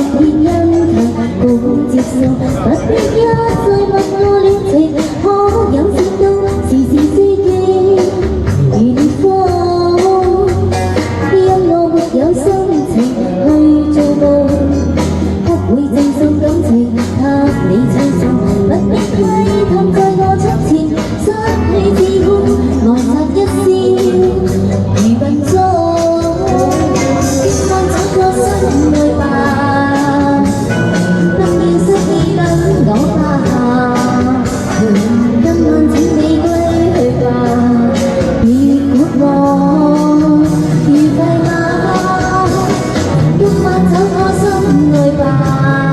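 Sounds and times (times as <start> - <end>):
steady bass line: 0.0 - 45.9
woman singing pop song: 0.0 - 45.9.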